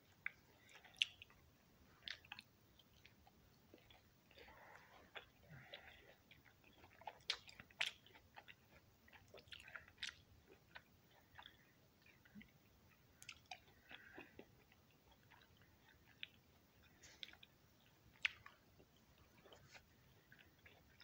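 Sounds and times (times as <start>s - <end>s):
person chewing with mouth clicks: 0.2s - 1.4s, 2.0s - 21.0s.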